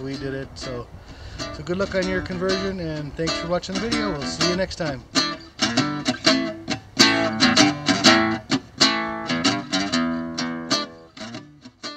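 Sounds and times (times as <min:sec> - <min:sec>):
acoustic guitar strumming and plucking: 0:00.0 - 0:11.9.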